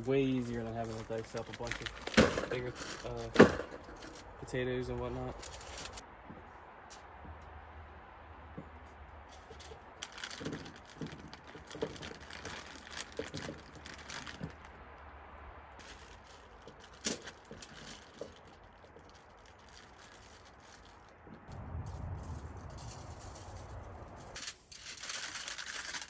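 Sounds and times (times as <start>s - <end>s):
aluminium foil crinkling: 0.0s - 6.0s, 9.2s - 26.0s.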